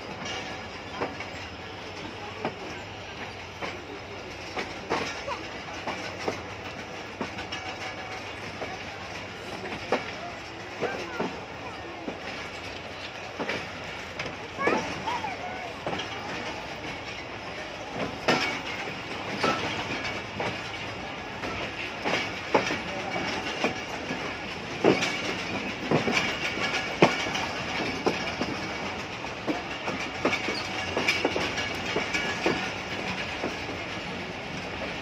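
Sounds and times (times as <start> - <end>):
train running rumble: 0.0 - 35.0
train wheels clattering on rails: 0.0 - 35.0.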